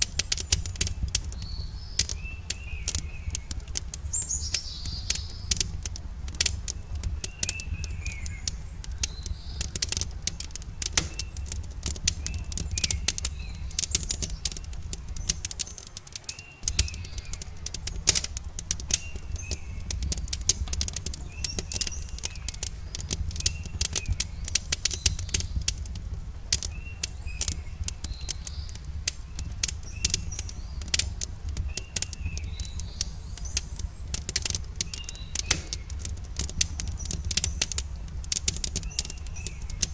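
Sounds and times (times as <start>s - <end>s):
small birds chirping: 0.0s - 39.9s
wood fire crackling and popping: 0.0s - 39.9s.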